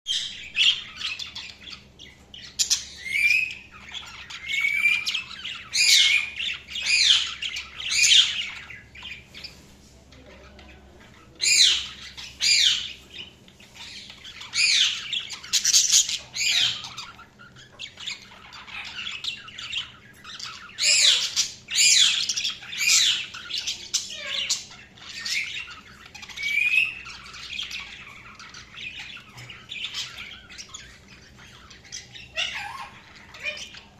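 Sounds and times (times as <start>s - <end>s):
budgerigars chirping and squawking: 0.1s - 33.9s.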